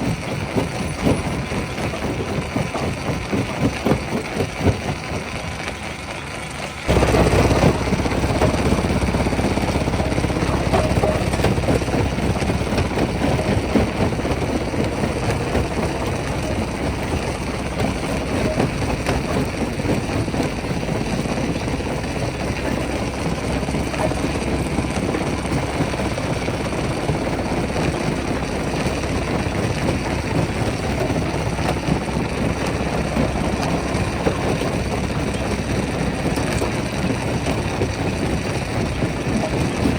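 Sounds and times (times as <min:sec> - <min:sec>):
irregular machinery clatter: 0:00.0 - 0:39.9
rock-crushing machinery drone: 0:00.0 - 0:39.9.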